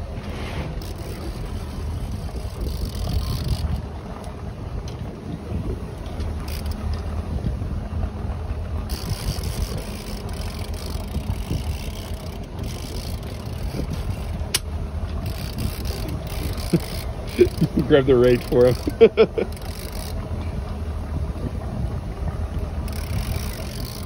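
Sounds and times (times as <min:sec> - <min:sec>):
boat engine running: 0:00.0 - 0:24.0
water noise: 0:00.0 - 0:24.0
wind: 0:00.0 - 0:24.0.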